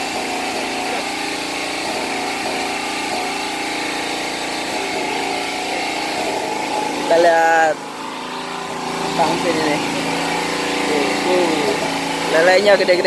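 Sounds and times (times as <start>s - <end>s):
water pump engine drone: 0.0s - 13.0s.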